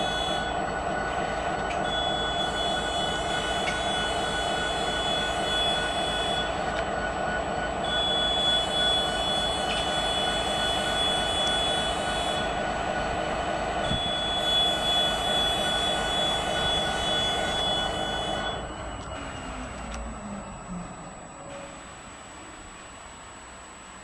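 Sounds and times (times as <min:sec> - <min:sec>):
locomotive engine idling: 0:00.0 - 0:23.1
high-pitched whine: 0:00.0 - 0:24.0.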